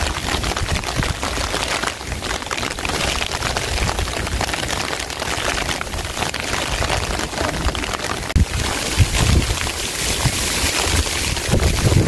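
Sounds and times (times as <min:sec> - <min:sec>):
rain: 0:00.0 - 0:12.0
wind rumbling on microphone: 0:00.0 - 0:12.0.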